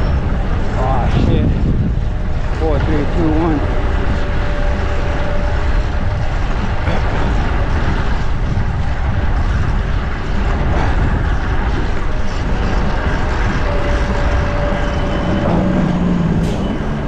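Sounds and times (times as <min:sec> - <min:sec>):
road traffic: 0:00.0 - 0:17.0
wind rushing over microphone: 0:00.0 - 0:17.0.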